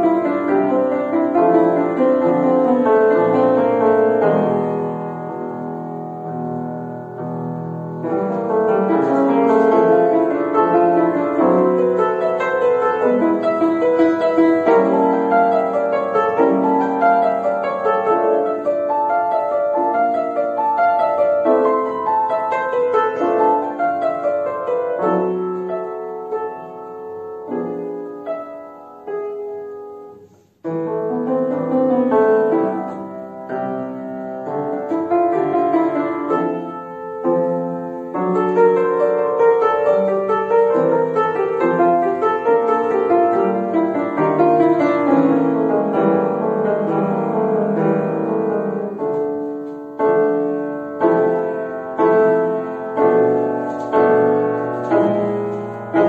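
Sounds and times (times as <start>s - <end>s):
solo grand piano piece: 0.0s - 56.0s.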